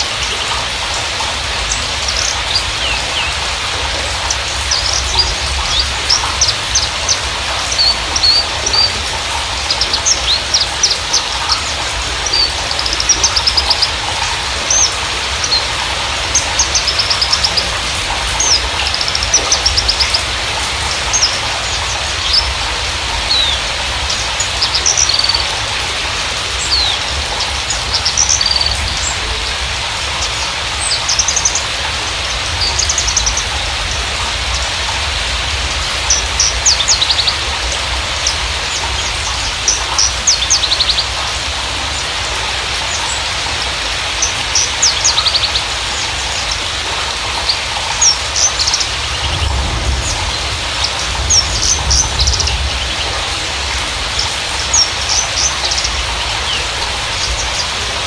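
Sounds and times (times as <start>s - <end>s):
bird chirping and trilling: 0.0s - 58.0s.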